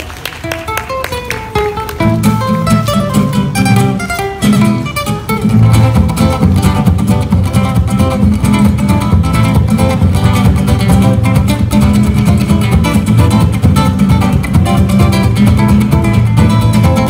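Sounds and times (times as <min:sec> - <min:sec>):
strummed guitar rhythm: 0:00.1 - 0:17.0
picked guitar melody: 0:00.4 - 0:17.0.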